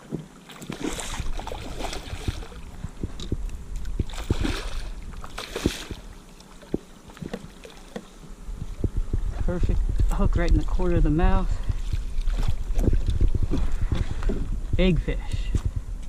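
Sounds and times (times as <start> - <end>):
water splashing and sloshing: 0.0 - 14.8.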